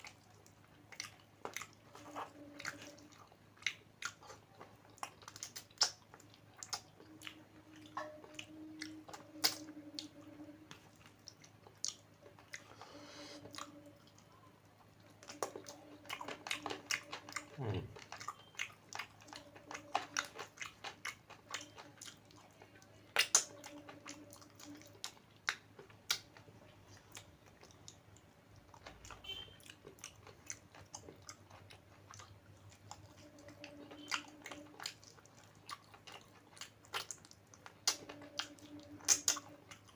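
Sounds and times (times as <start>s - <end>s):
food crunching: 0.0s - 39.9s
person chewing food: 0.0s - 39.9s.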